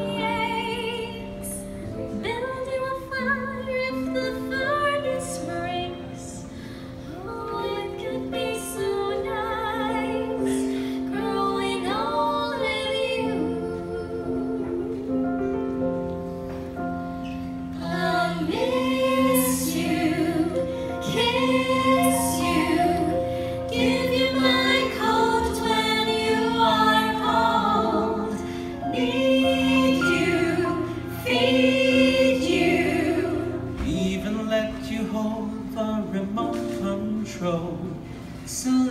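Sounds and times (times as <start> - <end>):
women singing in harmony: 0.0 - 15.6, 17.6 - 34.6
keyboard sustained chords: 0.0 - 38.9.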